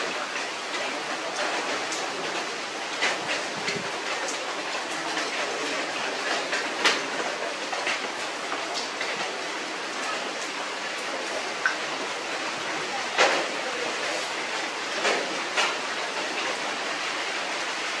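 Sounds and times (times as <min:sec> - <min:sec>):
sharp rain taps: 0:00.0 - 0:18.0
steady rain hiss: 0:00.0 - 0:18.0.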